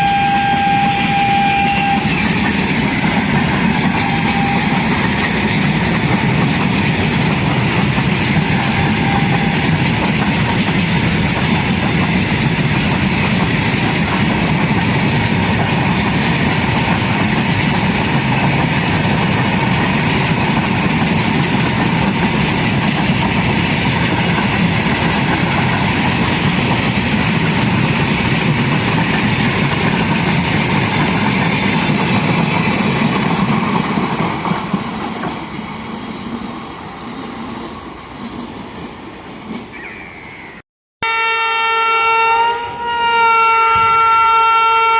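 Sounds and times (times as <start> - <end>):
freight train rolling past: 0.0 - 44.9.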